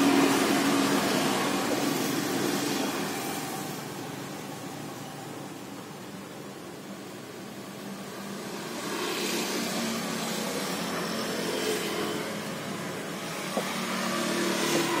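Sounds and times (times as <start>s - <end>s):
steady engine noise: 0.0s - 15.0s.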